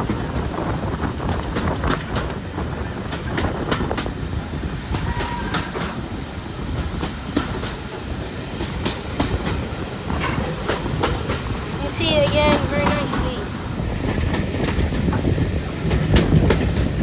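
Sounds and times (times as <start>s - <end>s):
wheels clicking over rail joints: 0.0s - 13.2s, 13.8s - 17.0s
train rumbling along track: 0.0s - 17.0s.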